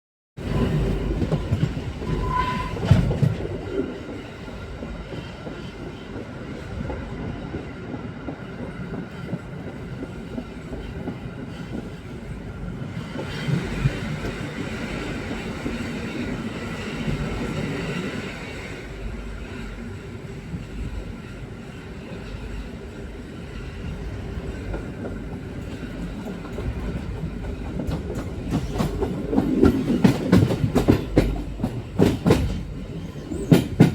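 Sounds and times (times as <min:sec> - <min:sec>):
train wheels rumbling on rails: 0:00.4 - 0:33.9.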